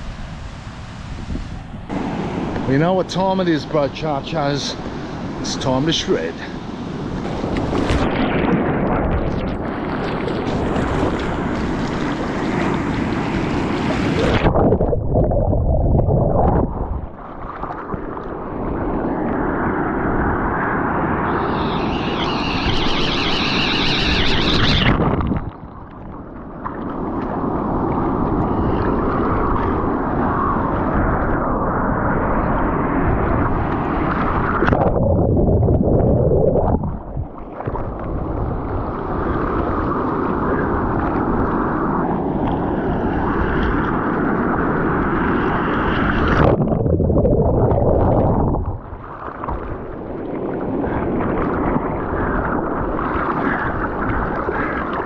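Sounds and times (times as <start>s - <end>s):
sea water rushing: 0.0s - 55.0s
wind over microphone: 0.0s - 55.0s.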